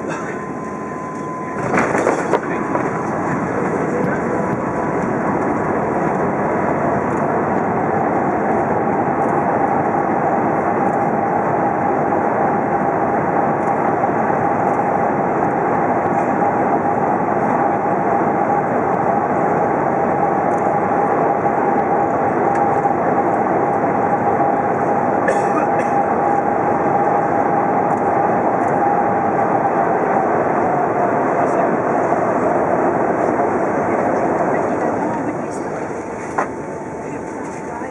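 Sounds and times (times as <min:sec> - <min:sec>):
aircraft cabin rumble: 0:00.0 - 0:37.9
steady whine: 0:00.0 - 0:37.9.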